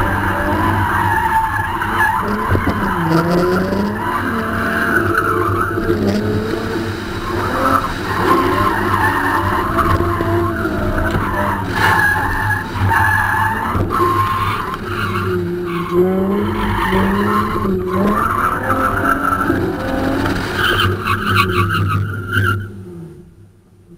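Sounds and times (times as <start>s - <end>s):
tyres squealing: 0.0s - 22.6s
car engine revving: 0.0s - 23.4s.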